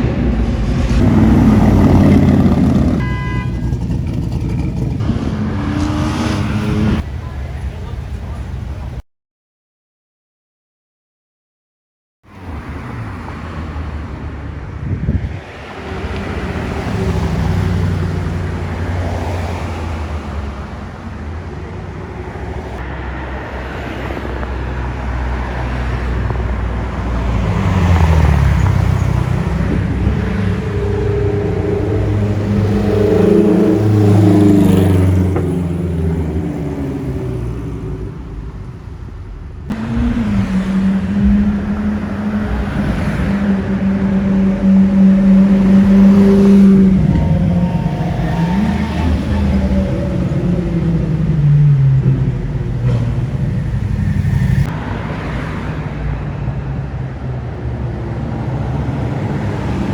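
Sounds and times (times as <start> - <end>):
car engines passing in traffic: 0.0 - 9.0, 12.2 - 59.9.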